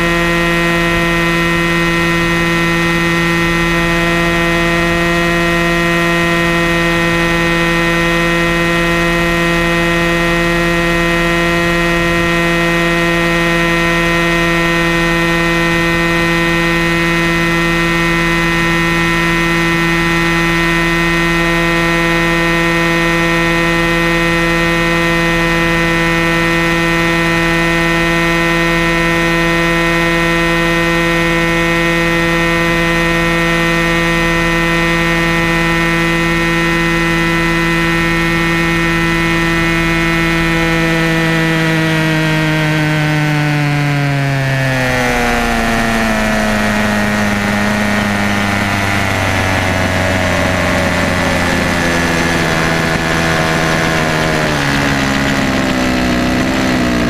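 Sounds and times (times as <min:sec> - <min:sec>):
model helicopter motor whine: 0:00.0 - 0:57.0.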